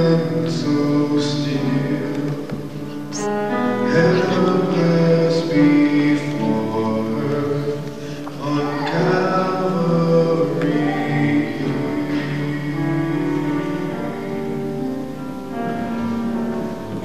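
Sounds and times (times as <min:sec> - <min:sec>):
singing with long held notes: 0:00.0 - 0:17.0.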